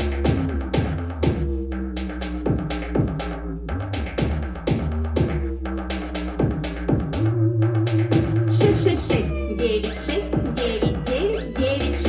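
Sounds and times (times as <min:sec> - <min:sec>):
drum machine beat: 0:00.0 - 0:12.0
synth bass tones: 0:00.0 - 0:12.0.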